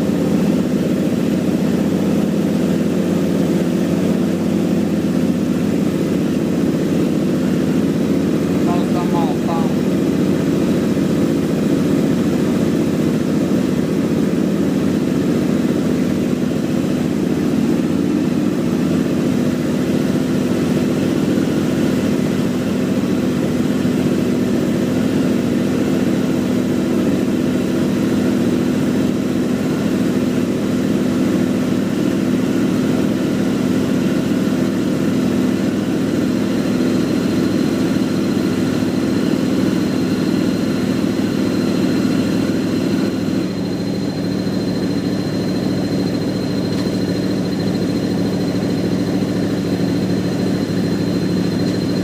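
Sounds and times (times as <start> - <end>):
motorcycle engine idling: 0.0 - 52.0.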